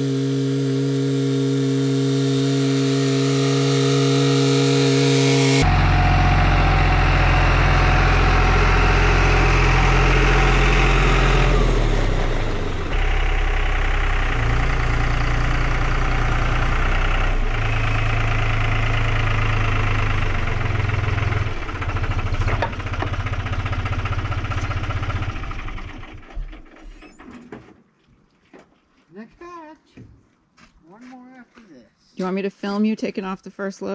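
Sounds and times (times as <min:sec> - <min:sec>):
tractor diesel engine running: 0:00.0 - 0:27.4.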